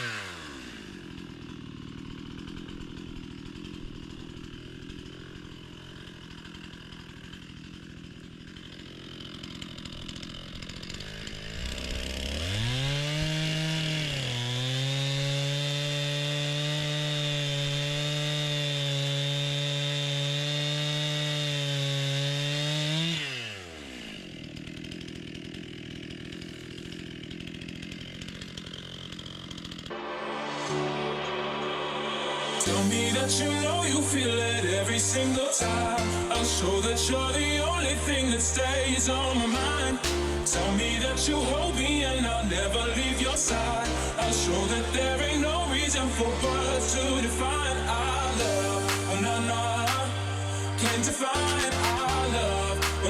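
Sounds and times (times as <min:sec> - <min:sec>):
chainsaw idling and revving: 0:00.0 - 0:53.0.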